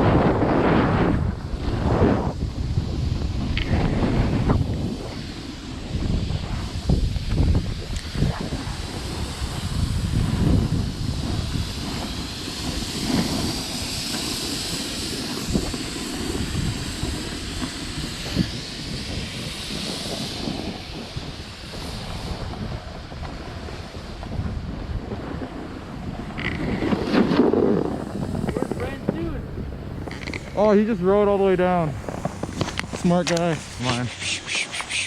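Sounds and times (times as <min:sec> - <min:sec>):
snowboard sliding over snow: 0:00.0 - 0:35.0
wind buffeting microphone: 0:00.0 - 0:35.0.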